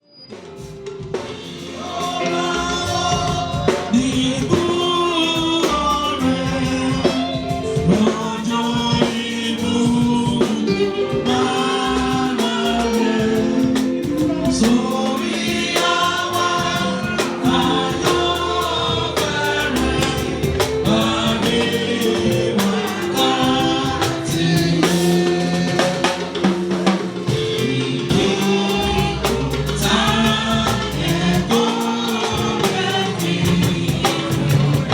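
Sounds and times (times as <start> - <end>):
drum kit beat: 0.3 - 34.9
bass line: 1.1 - 34.9
choir singing a hymn in unison: 1.1 - 34.9.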